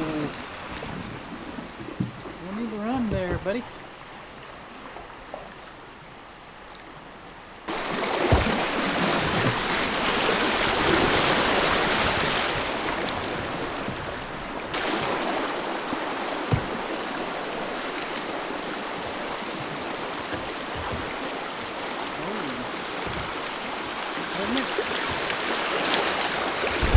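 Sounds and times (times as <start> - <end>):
rushing river water: 0.0 - 26.9.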